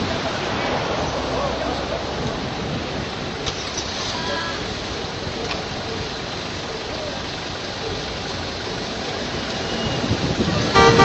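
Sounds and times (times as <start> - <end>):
rushing street traffic: 0.0 - 11.0.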